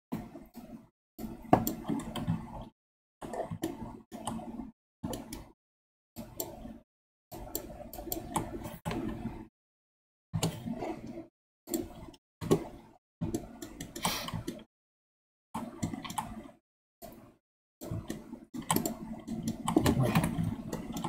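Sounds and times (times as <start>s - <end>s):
keyboard and mouse clicking: 0.1s - 5.5s, 7.4s - 9.2s, 10.4s - 14.7s, 15.6s - 21.0s.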